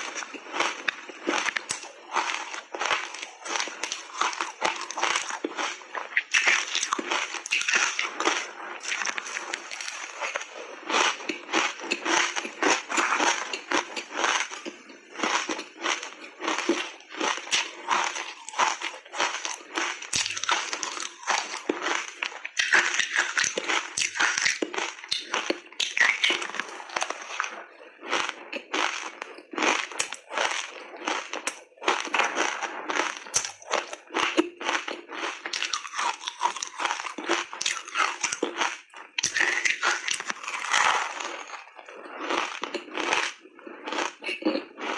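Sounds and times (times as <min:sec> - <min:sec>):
crunching and chewing ice: 0:00.0 - 0:44.9.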